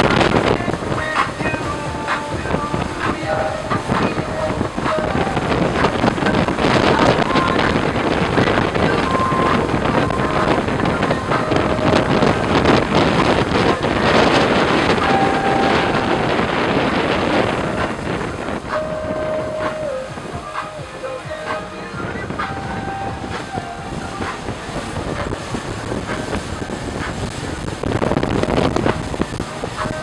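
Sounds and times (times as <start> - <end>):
outboard motors running: 0.0 - 30.0
water rushing past hull: 0.0 - 30.0
wind buffeting microphone: 0.0 - 30.0.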